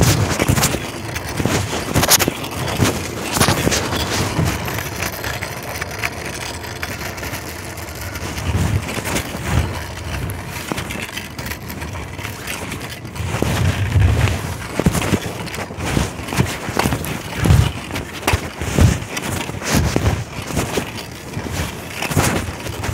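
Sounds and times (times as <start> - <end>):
fabric rubbing on microphone: 0.0 - 5.0, 8.0 - 22.9.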